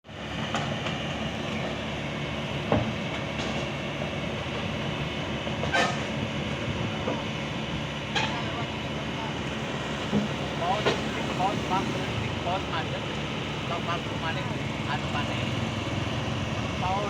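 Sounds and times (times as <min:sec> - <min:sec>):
excavator diesel engine running: 0:00.1 - 0:17.0.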